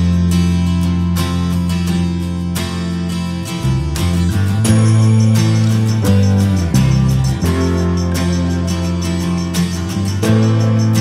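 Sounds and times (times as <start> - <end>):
acoustic guitar instrumental music: 0.0 - 11.0.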